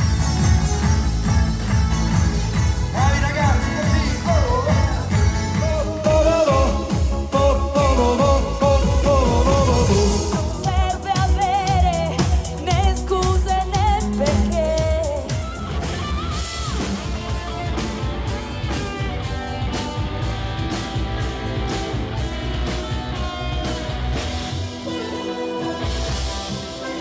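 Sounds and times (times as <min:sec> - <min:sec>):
live pop band playing: 0:00.0 - 0:27.0.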